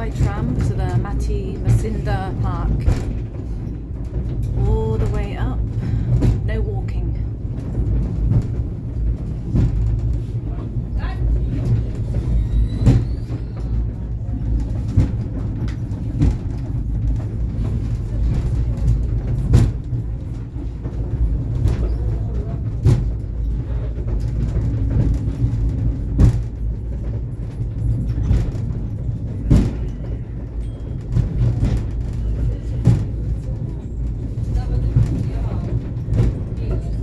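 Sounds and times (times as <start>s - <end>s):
funicular car rumble and hum: 0.0s - 37.0s.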